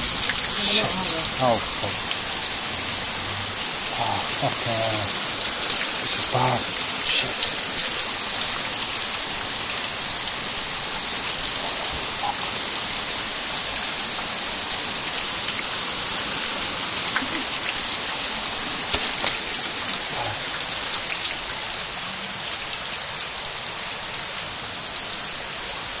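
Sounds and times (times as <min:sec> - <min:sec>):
heavy rain on standing water: 0:00.0 - 0:26.0.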